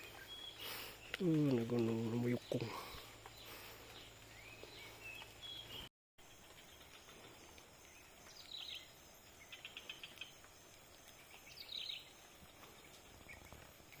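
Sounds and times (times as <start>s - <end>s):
bird chirps: 0.0s - 14.0s
outdoor hiss: 0.0s - 14.0s.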